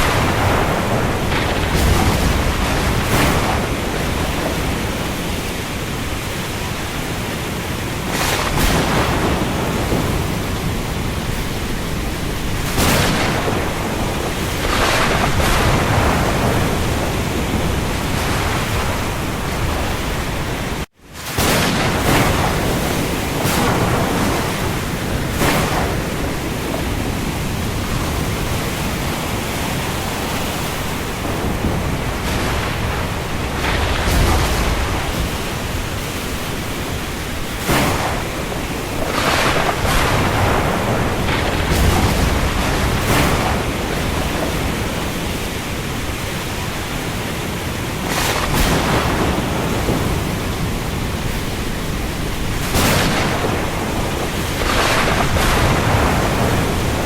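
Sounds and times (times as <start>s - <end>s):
heavy rain over sea: 0.0s - 57.0s.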